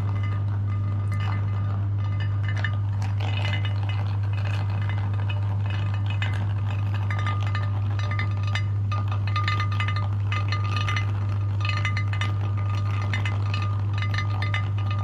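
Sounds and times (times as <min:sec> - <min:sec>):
clinking and rattling: 0:00.0 - 0:15.0.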